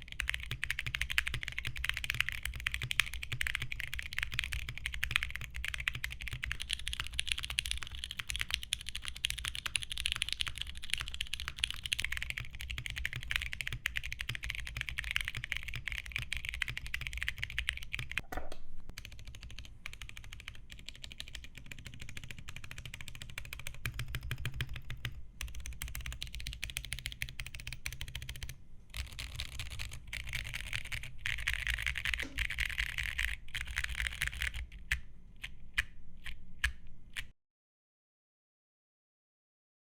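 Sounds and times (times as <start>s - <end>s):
mechanical keyboard typing: 0.0s - 18.3s, 19.0s - 37.3s.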